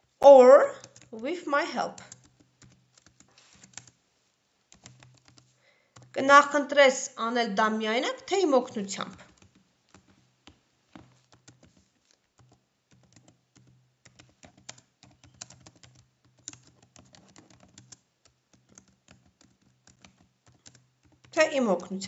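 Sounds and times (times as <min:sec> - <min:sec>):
faint keyboard typing: 0:00.1 - 0:04.0, 0:04.7 - 0:06.6, 0:08.1 - 0:22.0.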